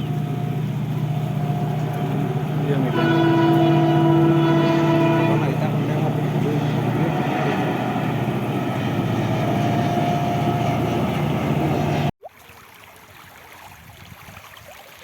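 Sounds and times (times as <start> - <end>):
motor running: 0.0 - 12.1.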